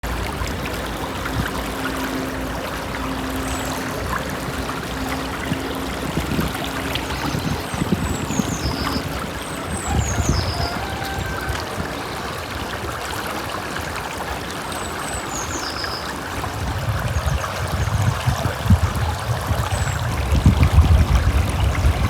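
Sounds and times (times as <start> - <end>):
river flowing and gurgling: 0.0 - 22.0.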